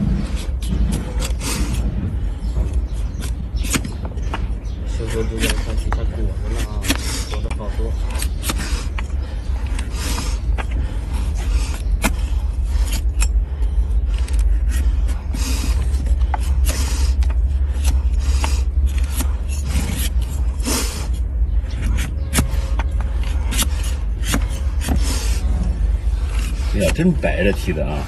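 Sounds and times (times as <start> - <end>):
blade scraping hoof: 0.0 - 28.0
low rumble: 0.0 - 28.0.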